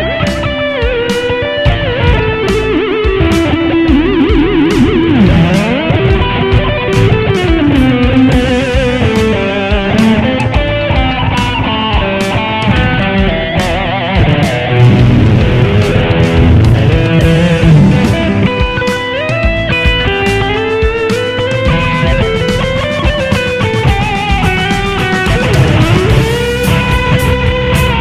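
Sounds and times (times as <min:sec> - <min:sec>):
electric guitar lead: 0:00.0 - 0:28.0
steady drum beat: 0:00.0 - 0:28.0.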